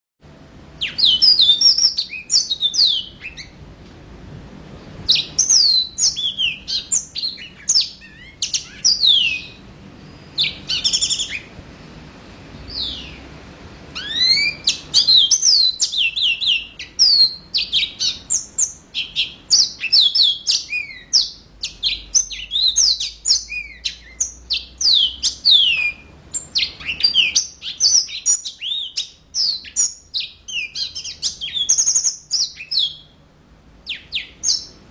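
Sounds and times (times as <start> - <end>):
canary singing: 0.2 - 3.8, 4.7 - 33.2, 33.8 - 34.9.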